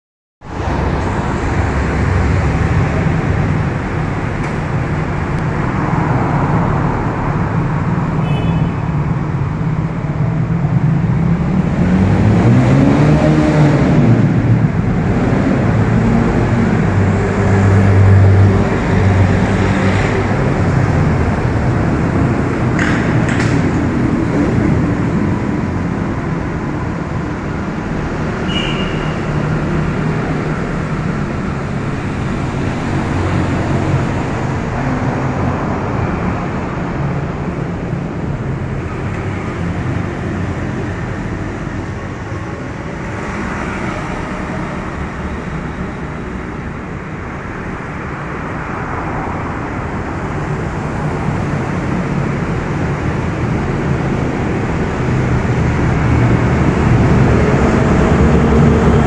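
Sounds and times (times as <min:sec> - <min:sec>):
road traffic passing: 0:00.4 - 0:59.0.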